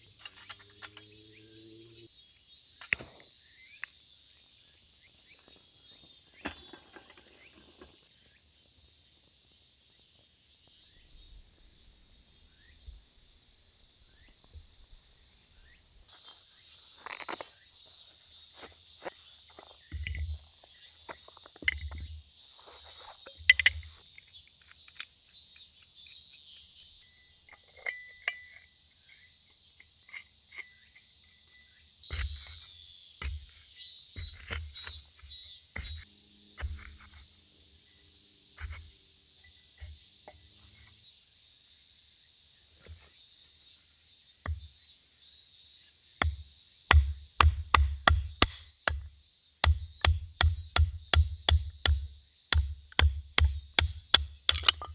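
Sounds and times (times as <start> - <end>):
high insect chorus: 0.0 - 54.9.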